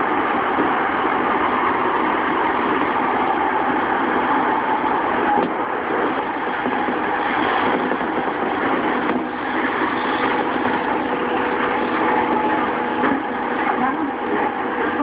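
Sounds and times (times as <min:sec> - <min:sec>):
electric train running on track: 0:00.0 - 0:15.0.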